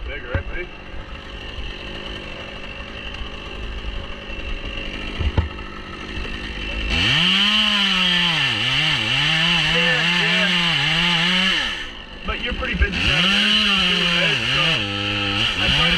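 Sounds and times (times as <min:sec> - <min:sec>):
chainsaw revving: 0:00.0 - 0:15.9.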